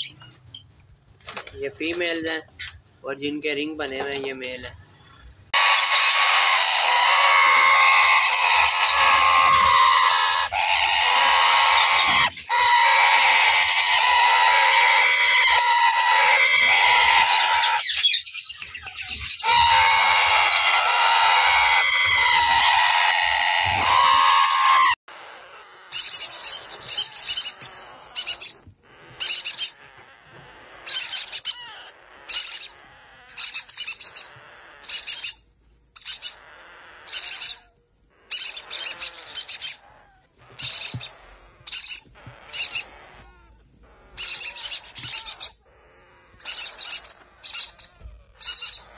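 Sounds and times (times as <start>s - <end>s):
parrot chicks raspy chirps: 0.0s - 48.9s
parrot chicks squawking: 5.5s - 48.9s.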